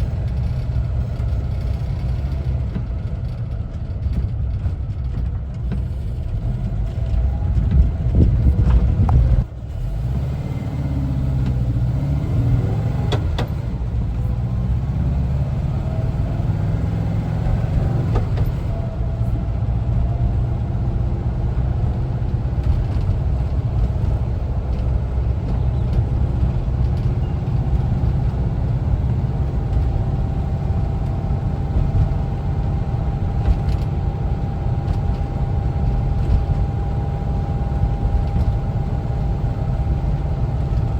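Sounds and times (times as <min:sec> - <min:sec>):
van engine and road noise: 0:00.0 - 0:40.9.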